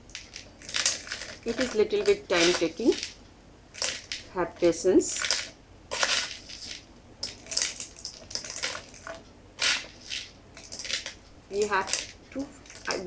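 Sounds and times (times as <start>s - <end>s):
aquarium stones rattling: 0.0s - 13.0s.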